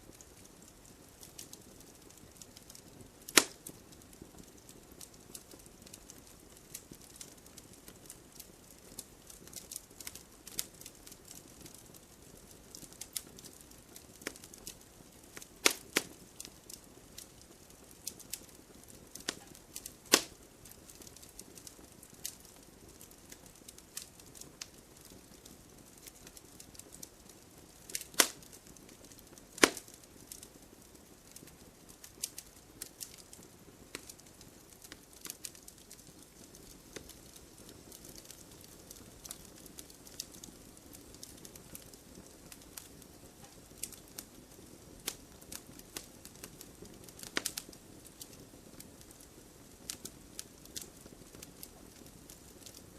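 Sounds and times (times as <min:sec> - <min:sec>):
faint steady hiss: 0:00.0 - 0:52.9
wood fire crackling and popping: 0:00.0 - 0:52.9.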